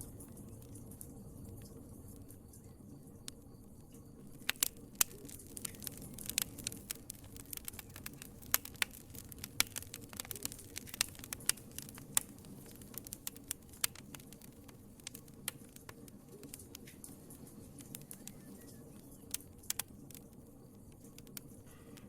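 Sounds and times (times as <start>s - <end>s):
low hiss of flames: 0.0s - 22.0s
wood fire crackling and popping: 0.0s - 22.0s.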